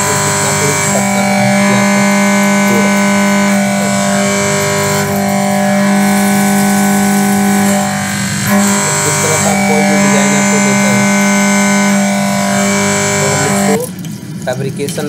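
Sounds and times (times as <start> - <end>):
milling cutter cutting steel: 0.0 - 14.2.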